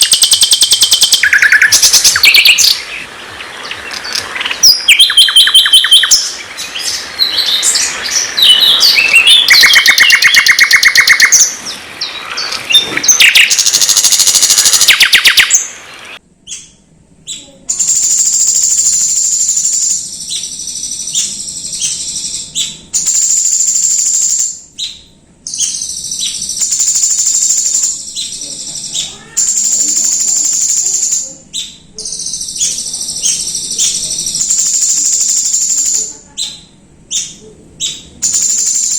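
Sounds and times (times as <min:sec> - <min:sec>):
high whistled bird phrases: 0:00.0 - 0:38.9
songbird trills: 0:00.0 - 0:38.9.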